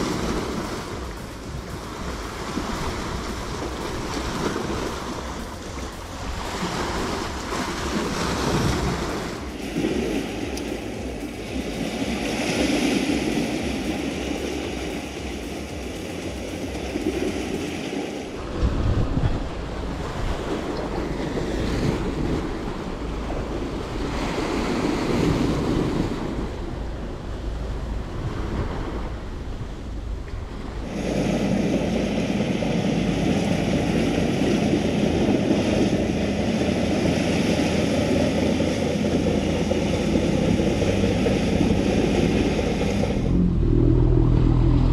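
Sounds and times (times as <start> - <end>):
waves washing against rocks: 0.0 - 26.9, 27.9 - 44.9
boat engine hum: 0.0 - 44.9
wind buffeting microphone: 0.0 - 44.9.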